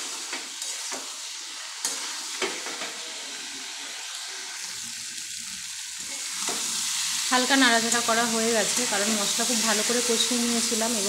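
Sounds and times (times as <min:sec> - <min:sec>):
curry sizzling in a pan: 0:00.0 - 0:11.0.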